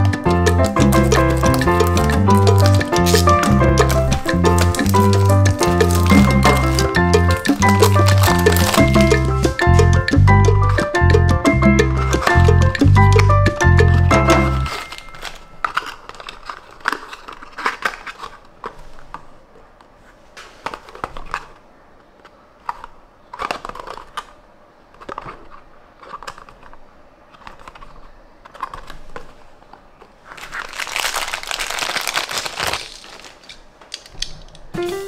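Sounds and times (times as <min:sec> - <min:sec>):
plastic wrapper crinkling: 0:00.0 - 0:11.0, 0:11.8 - 0:35.0.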